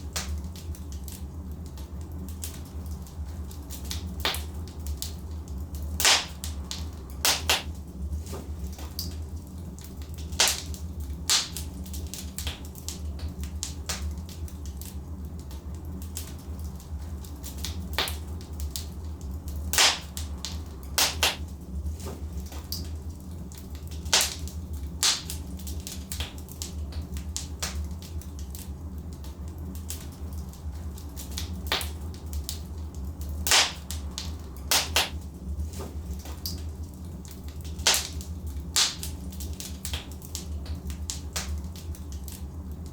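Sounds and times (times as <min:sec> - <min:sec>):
fire low rumble: 0:00.0 - 0:42.9
wood crackling and popping: 0:00.0 - 0:42.9.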